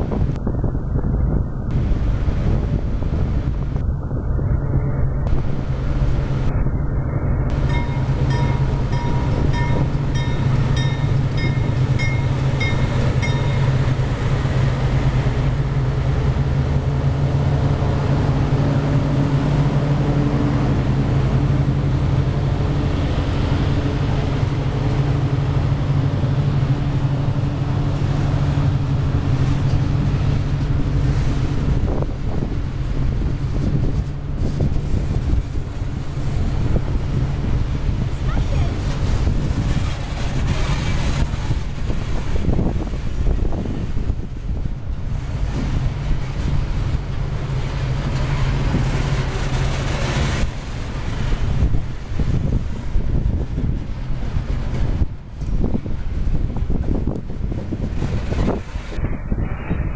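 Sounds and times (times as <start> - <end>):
locomotive engines droning: 0.0 - 59.9
freight cars rolling past: 1.7 - 59.9.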